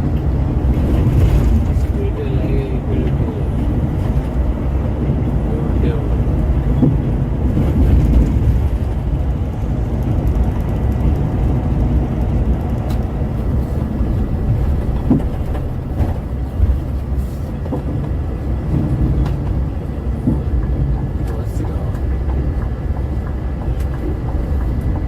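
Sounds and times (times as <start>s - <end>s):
coach engine and road noise: 0.0s - 25.0s.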